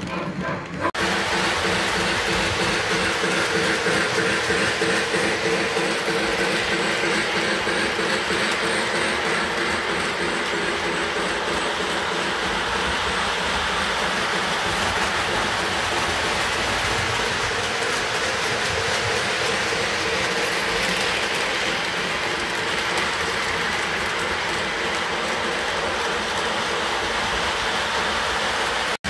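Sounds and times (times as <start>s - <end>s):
model trains rumbling and clattering: 0.0s - 29.0s.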